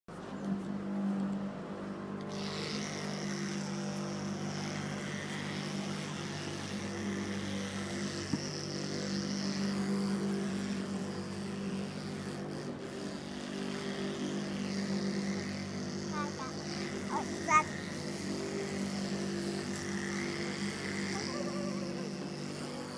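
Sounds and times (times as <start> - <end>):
steady engine drone: 0.1 - 22.9.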